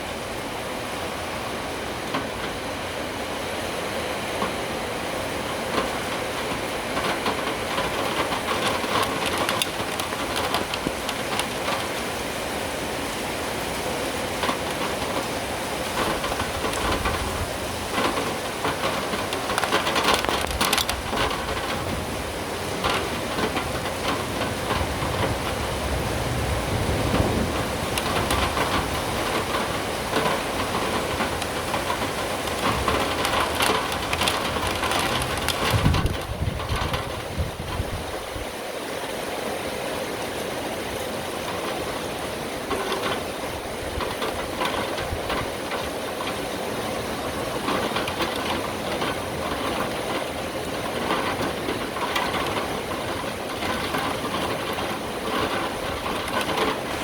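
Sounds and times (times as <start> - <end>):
raindrops ticking near microphone: 0.0 - 57.0
steady rain falling: 0.0 - 57.0.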